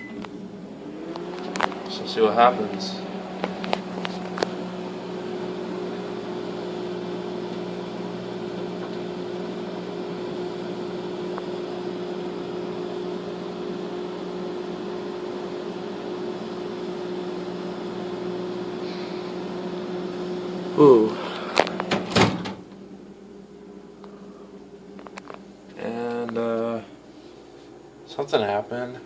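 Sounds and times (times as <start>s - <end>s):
microwave electrical hum: 0.0s - 29.0s
microwave fan rushing: 0.0s - 29.0s.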